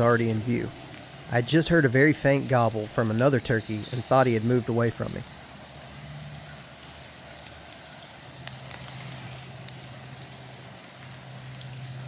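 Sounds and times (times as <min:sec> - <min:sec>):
background hiss: 0:00.0 - 0:12.0
water dripping onto leaves: 0:00.0 - 0:12.0.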